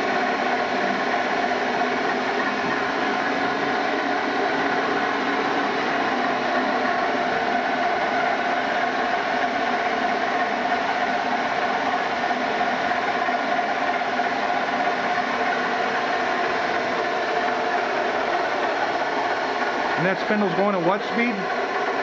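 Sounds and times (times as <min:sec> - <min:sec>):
machining center spindle whine: 0:00.0 - 0:22.0
mechanical hum: 0:00.0 - 0:22.0.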